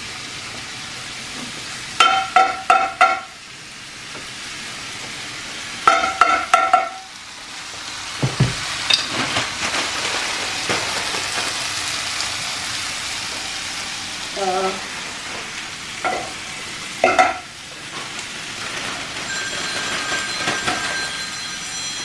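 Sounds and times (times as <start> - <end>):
steaks sizzling in a pan: 0.0 - 22.0.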